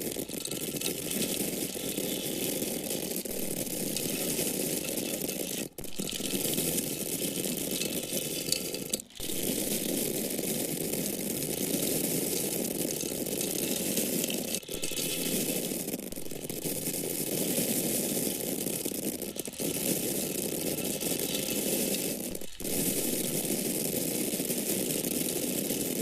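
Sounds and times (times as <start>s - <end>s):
corn kernels pouring: 0.0s - 26.0s.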